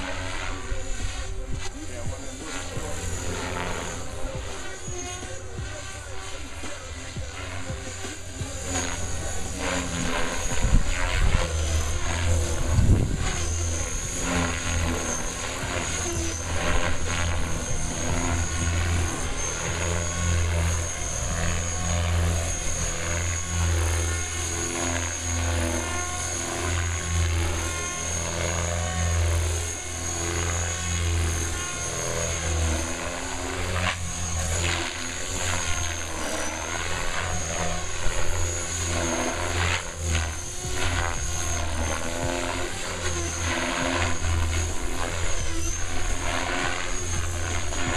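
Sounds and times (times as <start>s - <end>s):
helicopter rotor drone: 0.0s - 47.9s
high motor whine: 0.0s - 47.9s.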